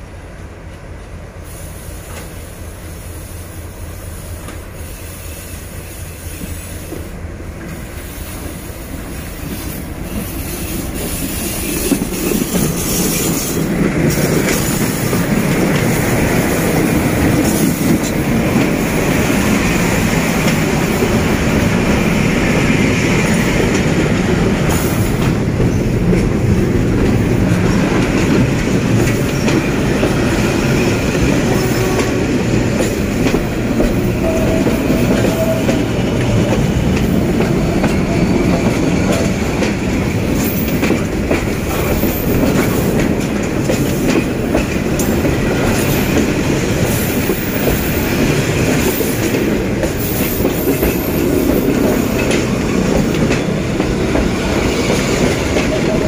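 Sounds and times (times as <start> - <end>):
diesel locomotive passing: 0.0 - 56.0
train wheels clacking on rails: 4.0 - 56.0.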